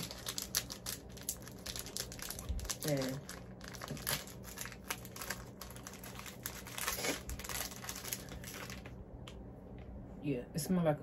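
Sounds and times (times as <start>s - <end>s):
plastic wrapper crinkling: 0.0s - 9.0s.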